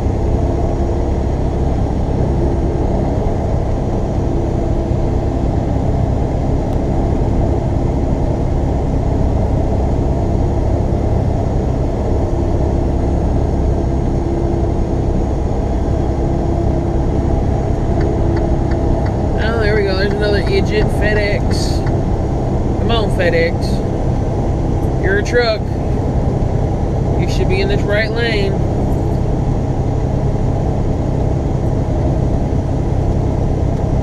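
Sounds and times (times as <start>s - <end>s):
faint steady hum: 0.0s - 34.0s
truck engine and tyres rumbling: 0.0s - 34.0s.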